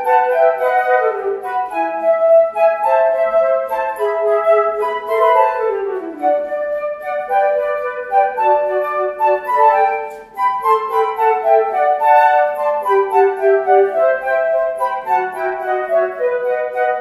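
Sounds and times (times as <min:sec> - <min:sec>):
flutes playing: 0:00.0 - 0:17.0.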